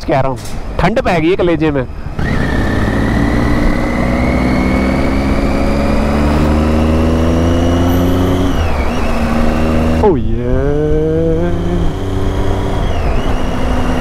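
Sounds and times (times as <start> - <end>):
motorcycle engine accelerating: 2.0 - 14.0.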